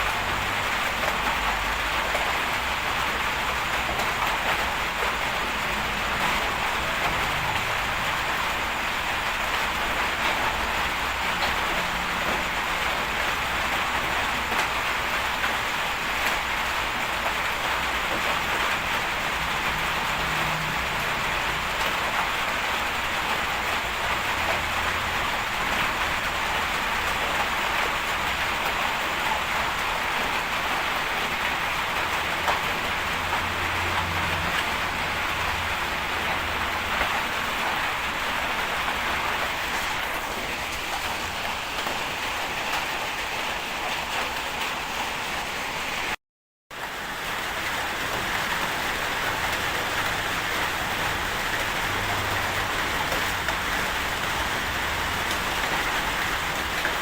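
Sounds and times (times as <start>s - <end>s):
heavy rain hissing: 0.0s - 46.2s, 46.8s - 57.0s.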